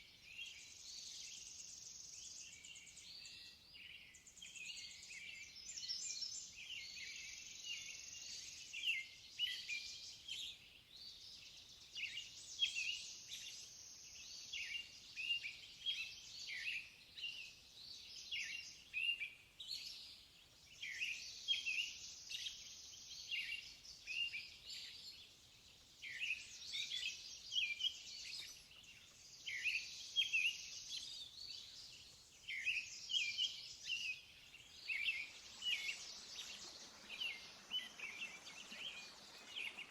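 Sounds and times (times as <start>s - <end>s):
birds chirping and trilling: 2.4s - 39.9s.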